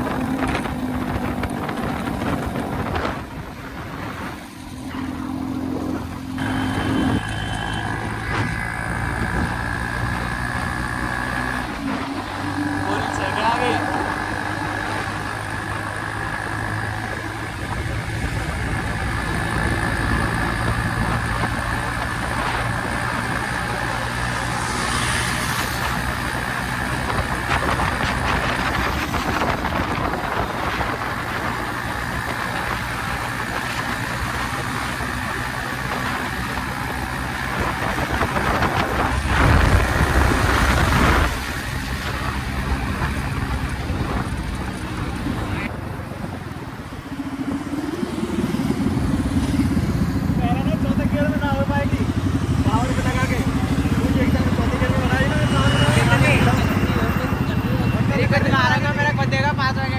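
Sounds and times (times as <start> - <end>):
motorcycle engine loud exhaust: 0.0 - 59.9.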